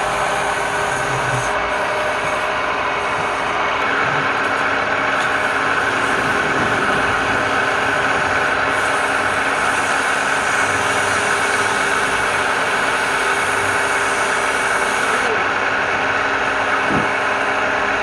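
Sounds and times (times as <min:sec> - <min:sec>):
wood lathe motor running: 0:00.0 - 0:18.0.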